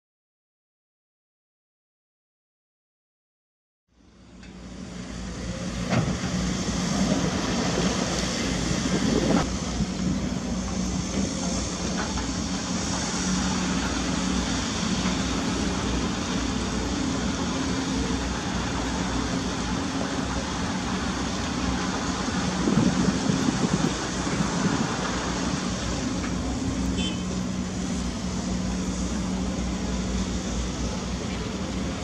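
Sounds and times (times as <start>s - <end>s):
excavator diesel engine running: 4.0s - 32.0s.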